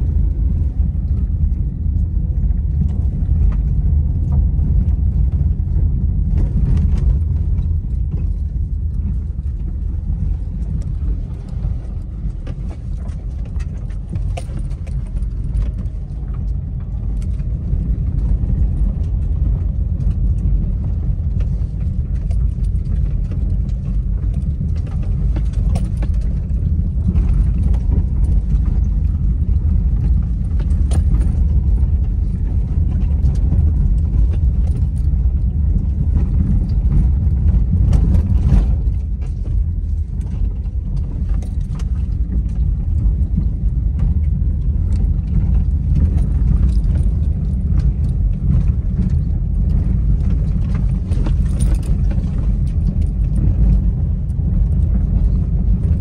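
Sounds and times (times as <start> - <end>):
car rumbling over dirt road: 0.0 - 56.0
small knocks and rattles: 2.6 - 56.0.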